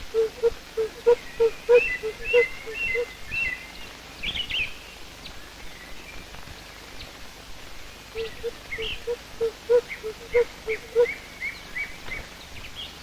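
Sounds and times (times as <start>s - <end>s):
birds chirping: 0.0s - 7.2s, 8.2s - 13.0s.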